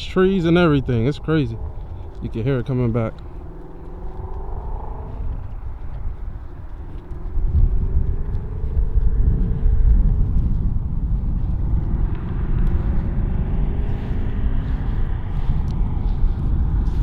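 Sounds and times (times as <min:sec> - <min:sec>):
deep car exhaust rumble: 0:00.0 - 0:17.0.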